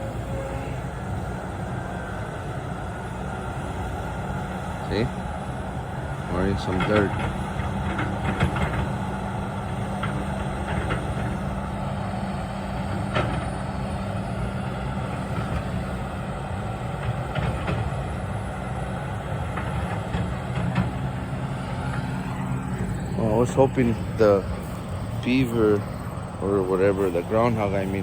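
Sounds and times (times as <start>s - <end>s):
tractor engine humming: 0.0s - 28.0s.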